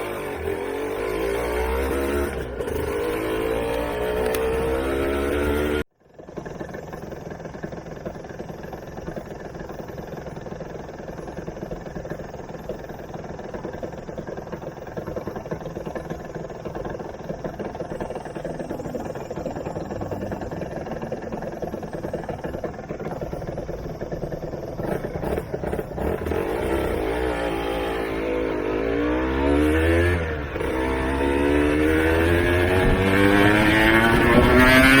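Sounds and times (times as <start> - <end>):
two-stroke motorcycle engine revving: 0.0 - 35.0.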